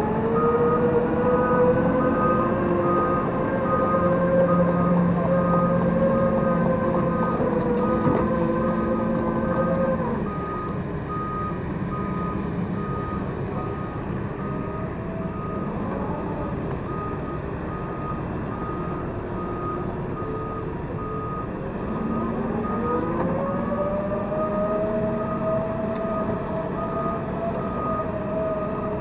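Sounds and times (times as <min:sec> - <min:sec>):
diesel engine running: 0:00.0 - 0:29.0
travel alarm beeping: 0:00.4 - 0:23.1, 0:26.1 - 0:28.3.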